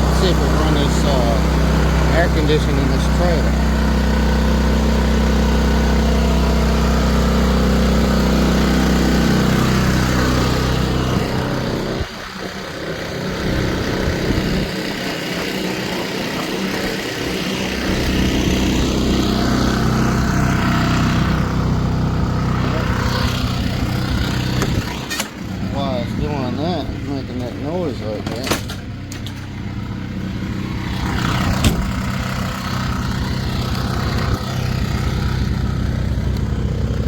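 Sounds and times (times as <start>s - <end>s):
generator engine running: 0.0s - 37.0s.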